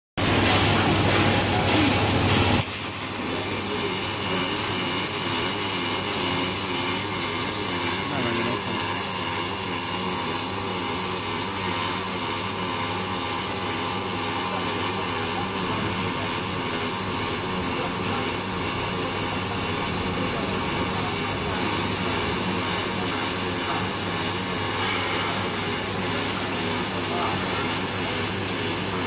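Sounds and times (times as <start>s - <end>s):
robotic welder hissing and humming: 0.2s - 29.0s.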